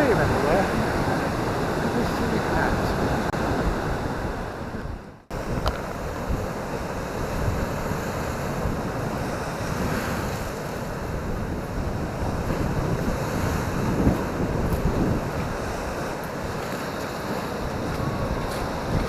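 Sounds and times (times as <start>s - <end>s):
sea waves washing on beach: 0.0s - 19.0s
wind buffeting microphone: 0.0s - 19.0s.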